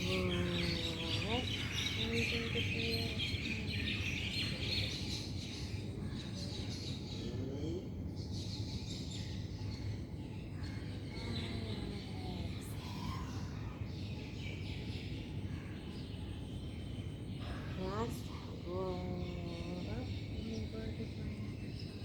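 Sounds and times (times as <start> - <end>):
low background rumble: 0.0 - 22.0
small birds chirping: 0.0 - 22.0.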